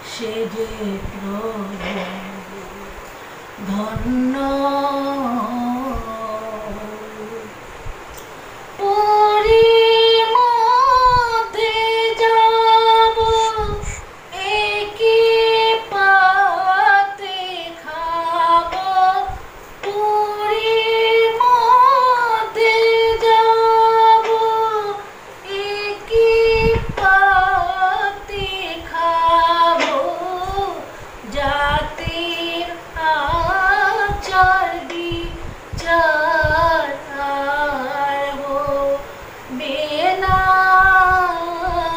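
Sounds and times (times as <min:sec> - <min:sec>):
woman singing solo: 0:00.0 - 0:41.9.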